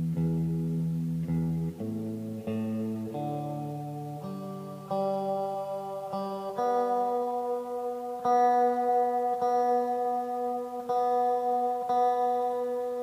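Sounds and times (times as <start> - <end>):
electric guitar notes ringing: 0.0 - 13.0.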